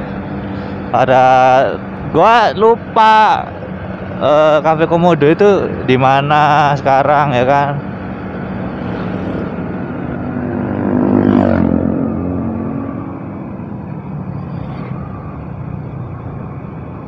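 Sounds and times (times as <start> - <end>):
motorbike passing: 0.0 - 17.0.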